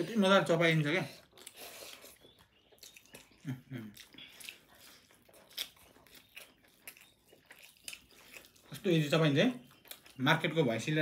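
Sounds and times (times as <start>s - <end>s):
people chewing: 0.7s - 10.7s.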